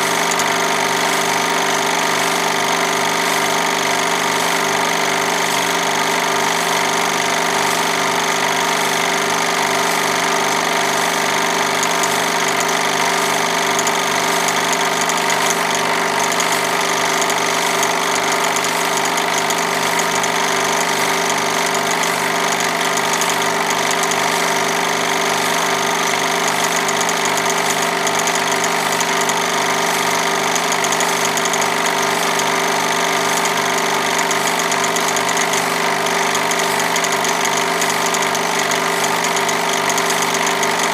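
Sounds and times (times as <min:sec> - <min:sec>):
movie projector whirring: 0:00.0 - 0:40.9.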